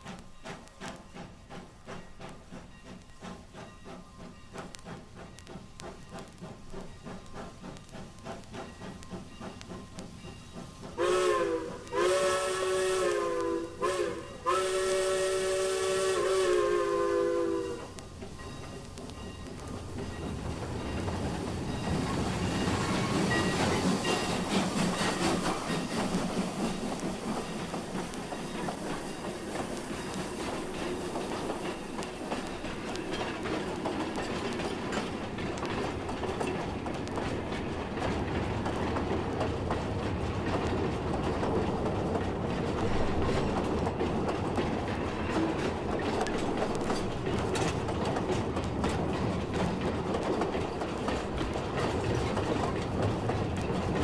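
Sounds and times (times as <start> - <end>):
steam train rolling past: 0.0 - 54.0
train cars clicking over rail joints: 0.0 - 54.0.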